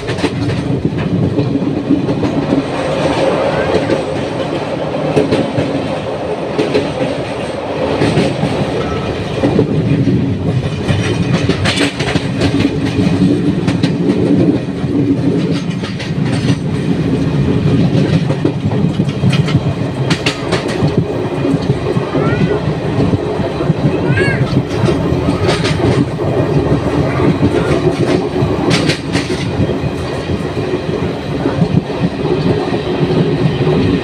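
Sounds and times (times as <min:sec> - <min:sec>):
train coaches rumbling: 0:00.0 - 0:34.0
wheels clattering on track: 0:00.0 - 0:34.0.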